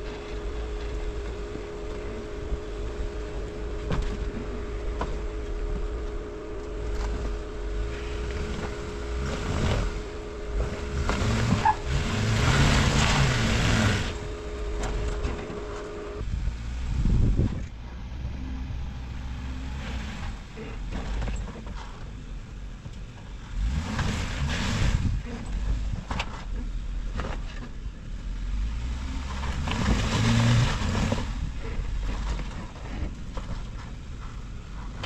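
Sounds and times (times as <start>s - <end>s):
jeep engine rumbling: 0.0s - 35.0s.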